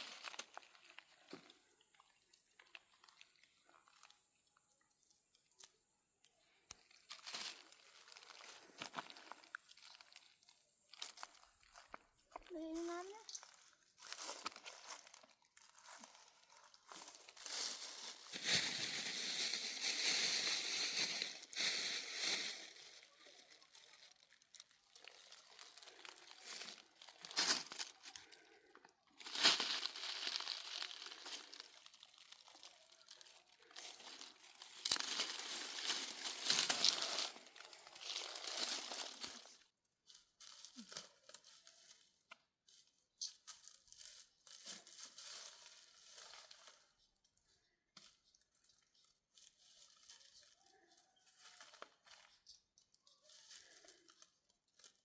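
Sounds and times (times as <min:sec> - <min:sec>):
crinkling rustling: 0:00.0 - 0:04.2, 0:05.5 - 0:55.0.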